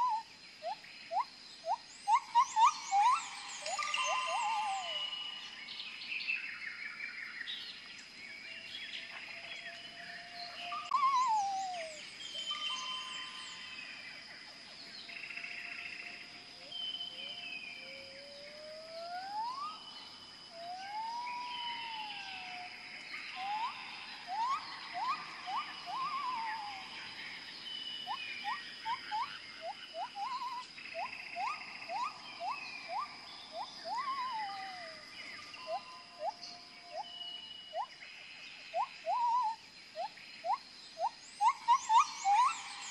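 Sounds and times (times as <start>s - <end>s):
birds chirping and whistling: 0.0s - 42.9s.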